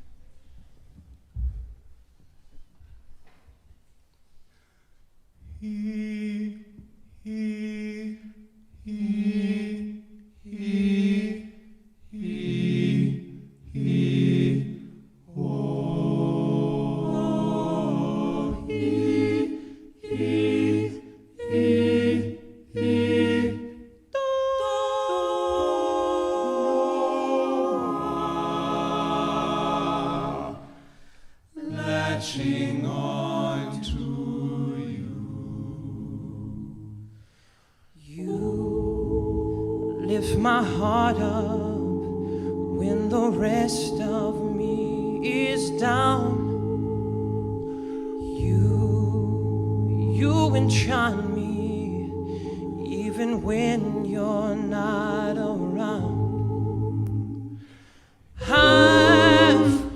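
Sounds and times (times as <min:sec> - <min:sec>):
male a cappella group singing: 0:05.5 - 0:37.1, 0:38.0 - 0:59.9.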